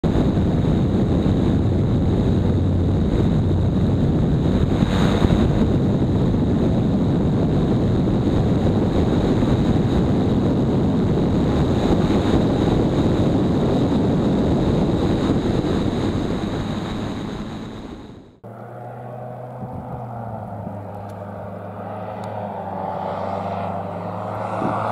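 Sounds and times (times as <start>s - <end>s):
wind noise on microphone: 0.0s - 18.4s, 19.5s - 24.9s
microlight engine and propeller: 0.0s - 24.9s.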